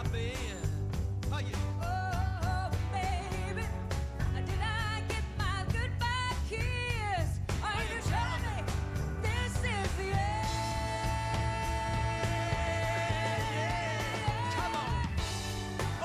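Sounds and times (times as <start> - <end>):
live rock band: 0.0 - 16.0
woman singing with vibrato: 1.8 - 8.6, 9.2 - 15.4.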